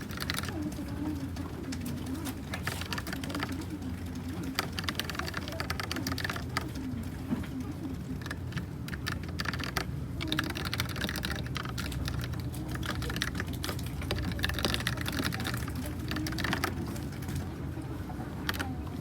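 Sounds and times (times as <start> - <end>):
mechanical keyboard typing: 0.0 - 7.0, 7.6 - 17.4, 18.4 - 18.7.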